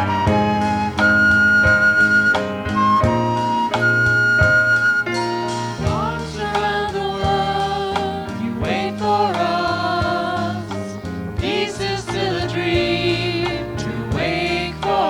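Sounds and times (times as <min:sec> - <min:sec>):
sustained musical accompaniment: 0:00.0 - 0:15.0.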